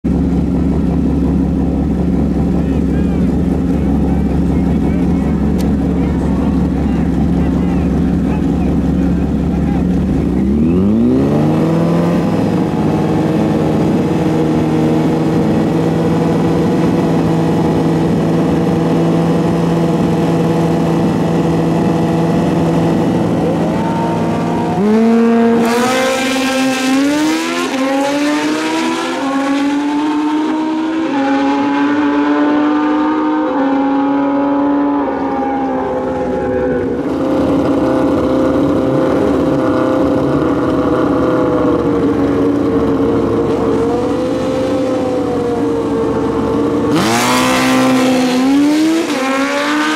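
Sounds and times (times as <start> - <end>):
motorcycle engine running steadily: 0.0 - 25.8, 33.1 - 49.9
motorcycle engine revving and accelerating: 0.0 - 49.9.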